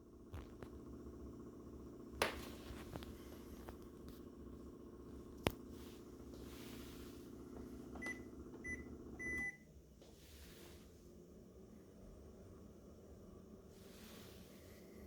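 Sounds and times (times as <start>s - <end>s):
air purifier humming: 0.0s - 15.0s.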